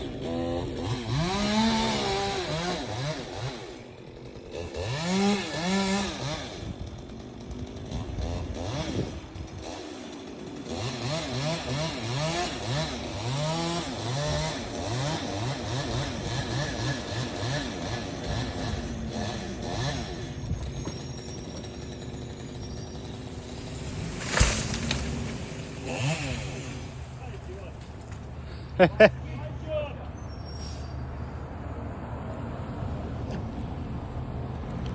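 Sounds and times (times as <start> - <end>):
chainsaw engine revving: 0.0 - 28.8.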